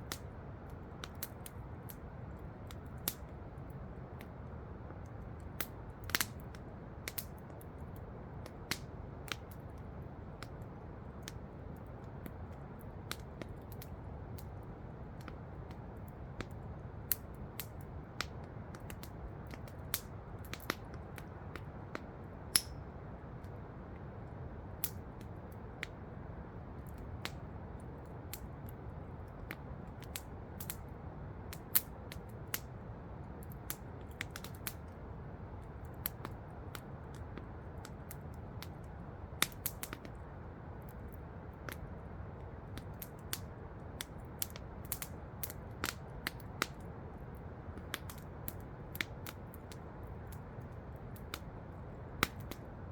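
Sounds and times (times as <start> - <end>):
campfire crackling and popping: 0.0 - 52.8.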